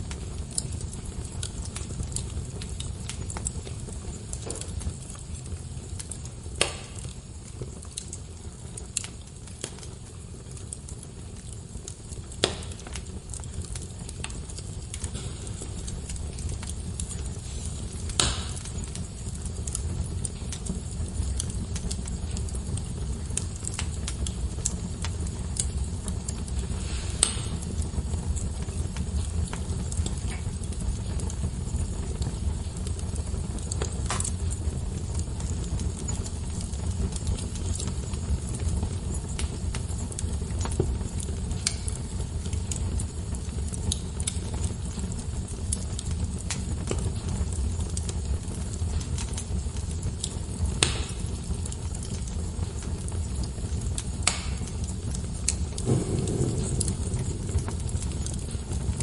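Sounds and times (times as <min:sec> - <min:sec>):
fire crackling in fireplace: 0:00.0 - 0:59.0
loud fire pops: 0:00.0 - 0:59.0.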